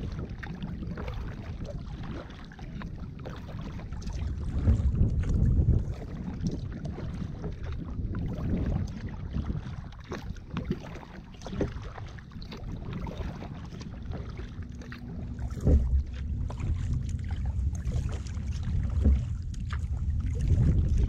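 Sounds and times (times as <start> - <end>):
paddle splashing in water: 0.0 - 21.0
wind noise on microphone: 0.0 - 21.0.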